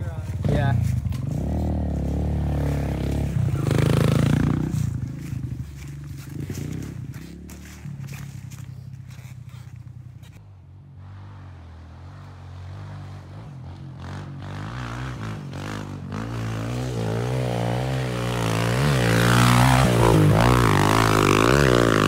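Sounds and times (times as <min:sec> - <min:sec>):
motorcycle engine revving: 0:00.0 - 0:10.4, 0:11.1 - 0:22.0.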